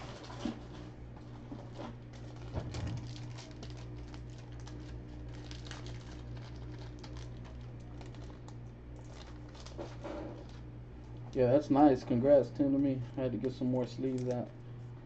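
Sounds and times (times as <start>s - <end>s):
plastic sleeves rustling: 0.0s - 14.5s
steady low hum: 0.0s - 15.0s.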